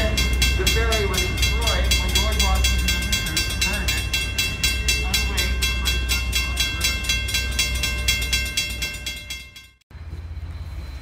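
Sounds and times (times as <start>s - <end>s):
low rumble: 0.0s - 11.0s
railroad crossing bell ringing: 0.0s - 11.0s.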